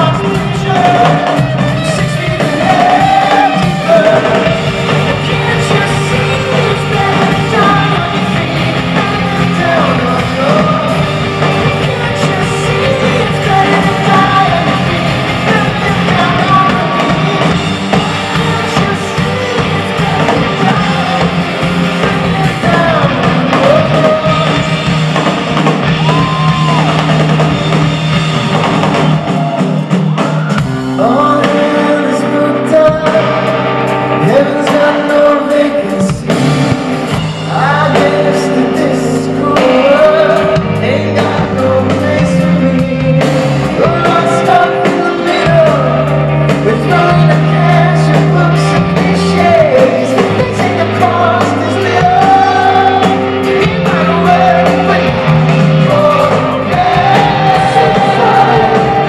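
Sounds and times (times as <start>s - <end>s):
man singing: 0.0s - 25.0s, 30.8s - 59.0s
bass guitar: 0.0s - 59.0s
distorted electric guitars: 0.0s - 59.0s
drum kit: 0.0s - 59.0s.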